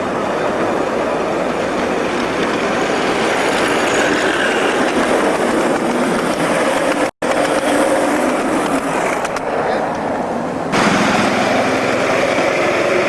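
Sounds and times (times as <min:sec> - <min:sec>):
miniature train running on track: 0:00.0 - 0:13.0.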